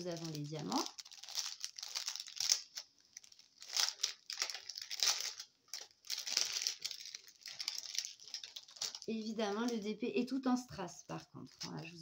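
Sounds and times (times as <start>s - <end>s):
plastic bags crinkling: 0.0s - 10.3s, 11.0s - 12.0s.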